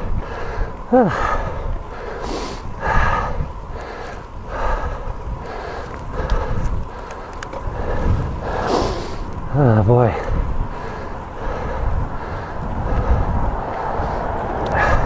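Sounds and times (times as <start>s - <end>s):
person breathing hard: 0.0s - 9.4s, 10.1s - 15.0s
wind rumble on microphone: 0.0s - 15.0s.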